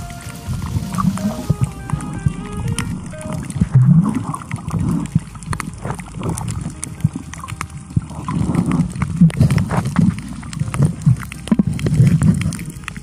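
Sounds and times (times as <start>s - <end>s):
water sloshing underwater: 0.0s - 13.0s
sharp underwater clicks: 0.1s - 13.0s.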